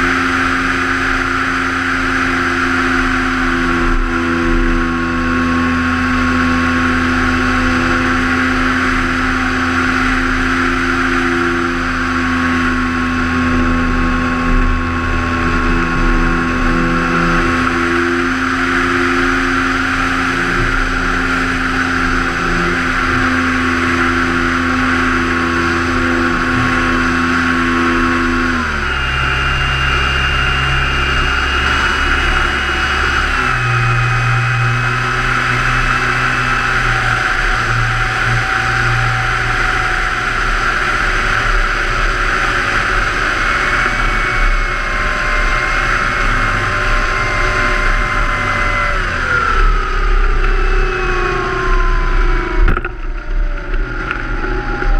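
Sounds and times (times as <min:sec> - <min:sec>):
model airplane motor running: 0:00.0 - 0:54.9.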